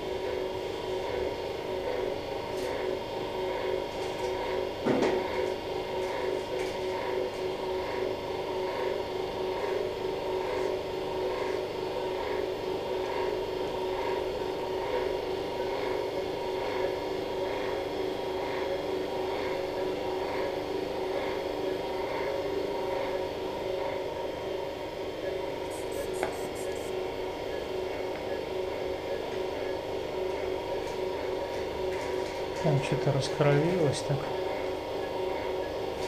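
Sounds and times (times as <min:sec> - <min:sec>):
medical equipment humming: 0:00.0 - 0:36.0.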